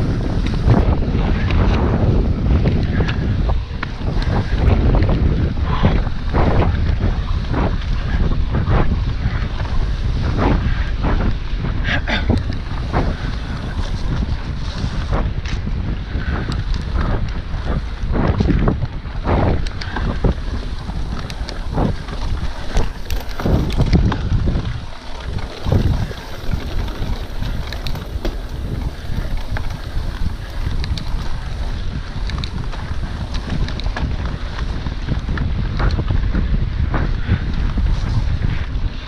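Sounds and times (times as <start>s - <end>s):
bike knocking and rattling: 0.0s - 39.0s
wind buffeting microphone: 0.0s - 39.0s.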